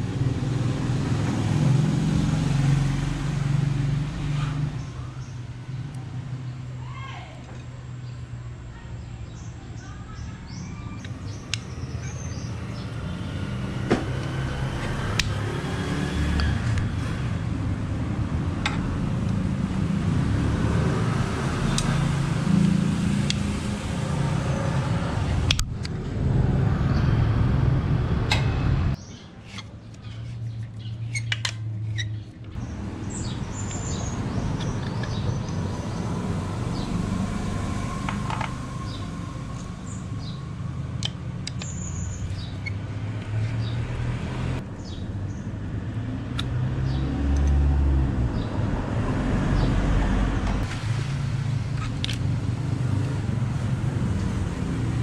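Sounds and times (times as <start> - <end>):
motor vehicles rumbling: 0.0 - 55.0.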